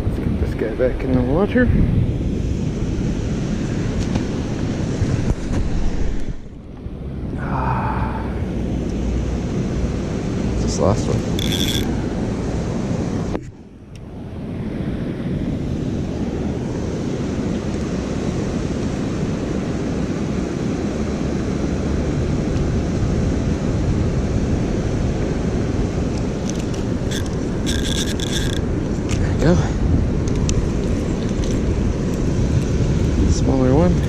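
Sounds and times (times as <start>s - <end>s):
wind on microphone: 0.0s - 34.0s.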